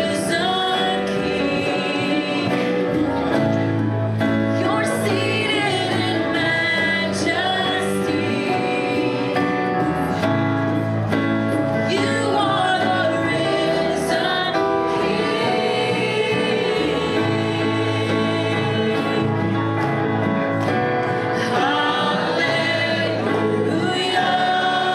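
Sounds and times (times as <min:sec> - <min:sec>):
gospel singing: 0:00.0 - 0:24.9
instrumental accompaniment: 0:00.0 - 0:24.9.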